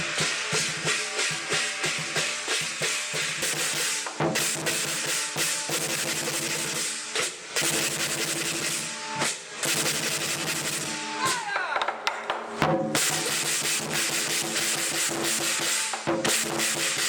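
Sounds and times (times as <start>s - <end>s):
clashing cymbals: 0.0s - 11.5s, 12.6s - 17.0s
big drum beaten fast: 0.0s - 11.8s, 12.6s - 17.0s.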